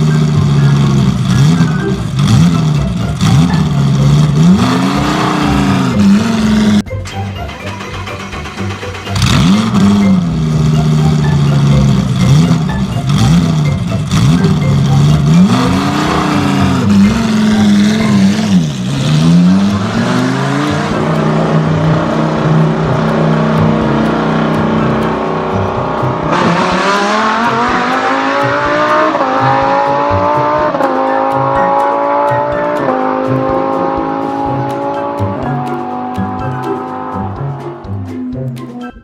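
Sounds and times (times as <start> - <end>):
car engine revving and accelerating: 0.0 - 6.9, 7.5 - 38.6.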